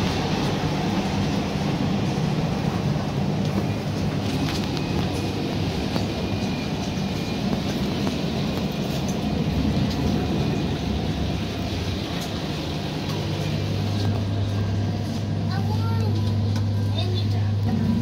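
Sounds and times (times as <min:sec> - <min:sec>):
low hum: 0:00.0 - 0:18.0
railcar cabin rumble: 0:00.0 - 0:18.0.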